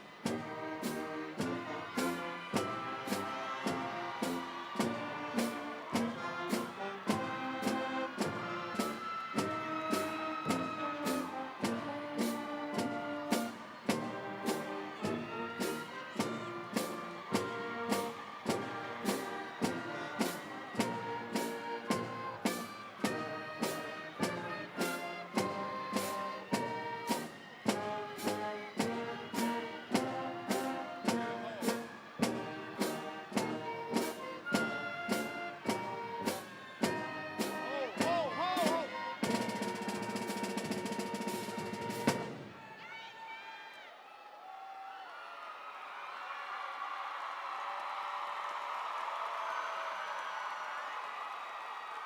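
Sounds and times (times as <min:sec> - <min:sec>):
brass band music: 0:00.0 - 0:42.6.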